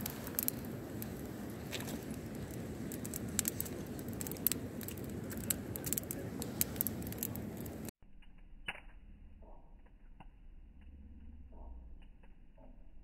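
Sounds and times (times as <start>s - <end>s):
low rushing of fire: 0.0s - 12.3s
bonfire crackling and popping: 0.0s - 12.8s.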